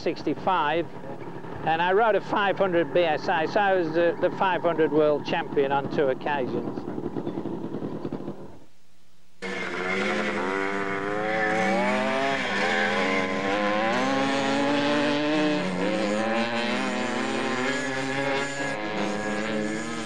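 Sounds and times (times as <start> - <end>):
motorcycle engines revving: 0.0 - 8.6, 9.4 - 20.0.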